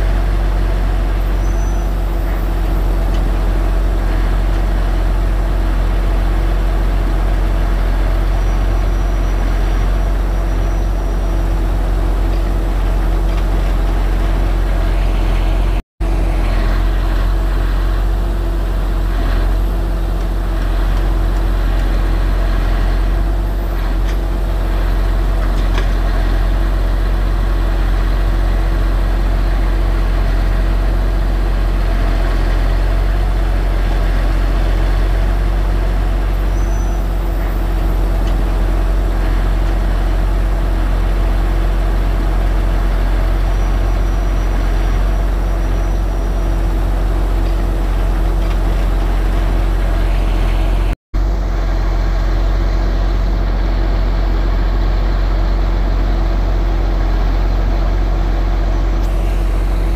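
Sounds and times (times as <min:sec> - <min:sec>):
heavy engine rumbling: 0:00.0 - 0:59.9.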